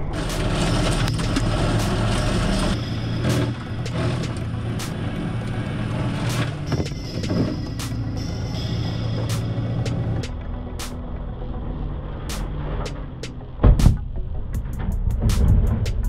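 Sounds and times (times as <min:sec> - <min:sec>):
diesel tractor running hard: 0:00.0 - 0:13.8.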